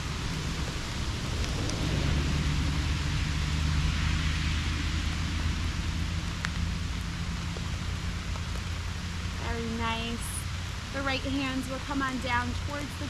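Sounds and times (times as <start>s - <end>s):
low rumble: 0.0s - 13.0s
steady rain falling: 0.0s - 13.0s.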